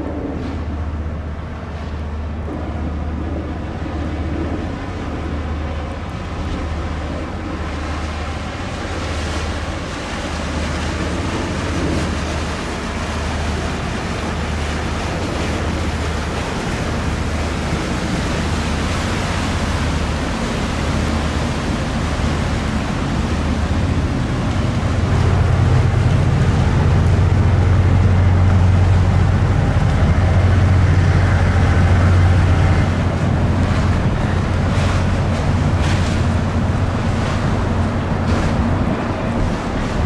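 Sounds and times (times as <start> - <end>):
ship engine drone: 0.0 - 40.0
wind and water rushing: 0.0 - 40.0.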